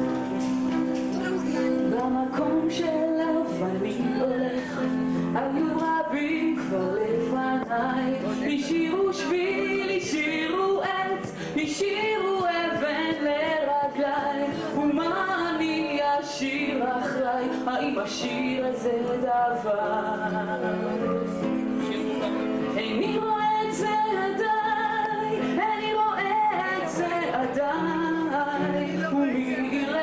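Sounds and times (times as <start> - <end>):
piano chords: 0.0 - 30.0
girl singing: 1.1 - 4.8, 5.4 - 20.8, 22.8 - 30.0.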